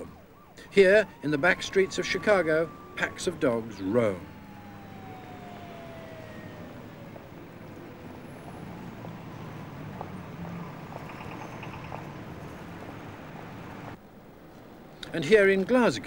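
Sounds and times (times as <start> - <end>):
distant siren: 0.0 - 14.0
low traffic hum: 0.0 - 16.0.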